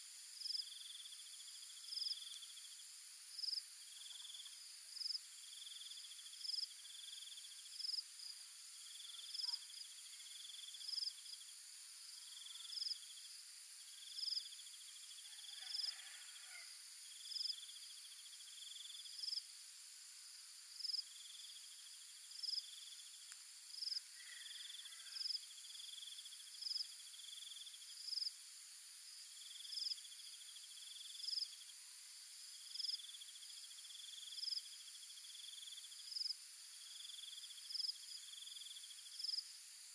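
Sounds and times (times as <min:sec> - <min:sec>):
high-pitched insect hum: 0:00.0 - 0:39.9
insects chirping: 0:00.0 - 0:39.9
pulsing insect trills: 0:00.0 - 0:39.9.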